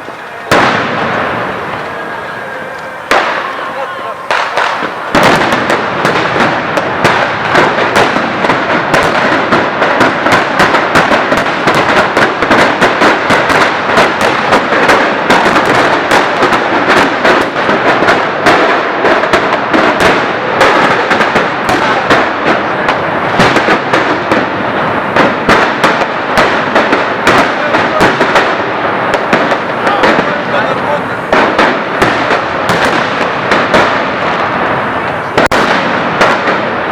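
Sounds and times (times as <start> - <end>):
firecrackers and fireworks banging: 0.0 - 36.9.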